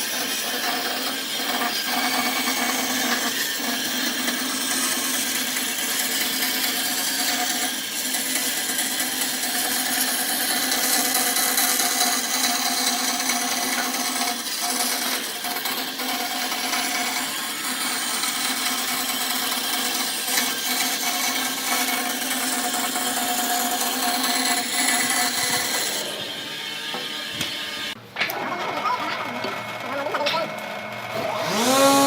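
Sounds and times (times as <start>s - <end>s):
tool cutting spinning wood: 0.0s - 32.0s
wood lathe motor humming: 0.0s - 32.0s.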